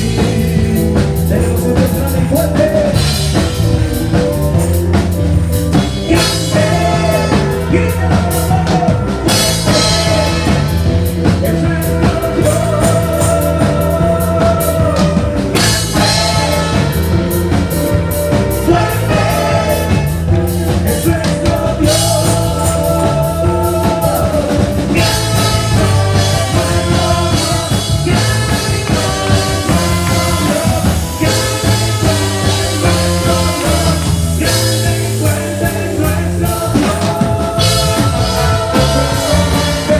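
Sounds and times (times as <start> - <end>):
bass guitar: 0.0 - 39.9
drum kit: 0.0 - 39.9
person singing: 0.0 - 39.9
rock band playing: 0.0 - 39.9.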